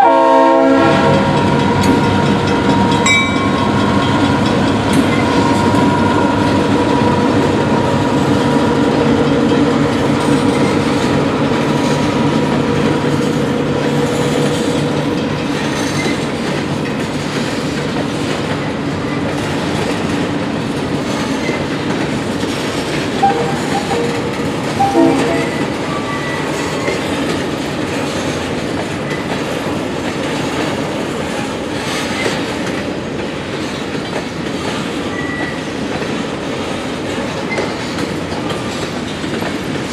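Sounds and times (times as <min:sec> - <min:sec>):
diesel locomotive drone: 0:00.0 - 0:39.9
train wheels clicking over rail joints: 0:01.0 - 0:39.9.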